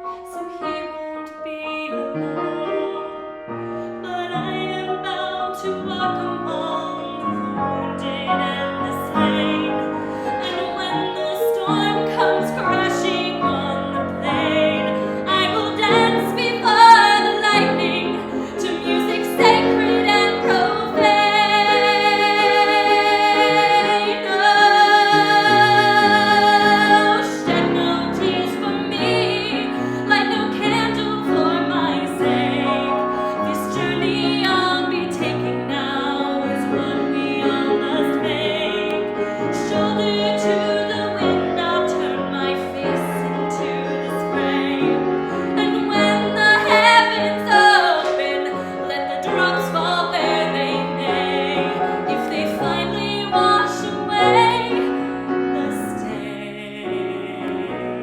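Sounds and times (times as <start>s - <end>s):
piano accompaniment: 0.0s - 58.0s
woman singing a ballad: 4.0s - 58.0s.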